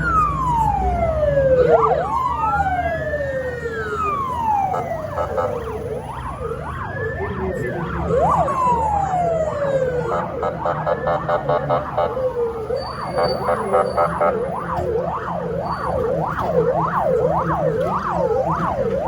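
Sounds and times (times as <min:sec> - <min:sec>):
siren wailing: 0:00.0 - 0:19.0
siren yelp: 0:00.0 - 0:19.0.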